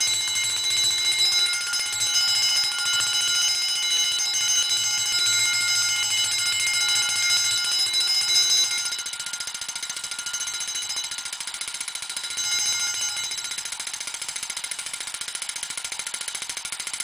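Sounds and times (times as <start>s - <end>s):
alarm bell ringing: 0.0s - 14.8s.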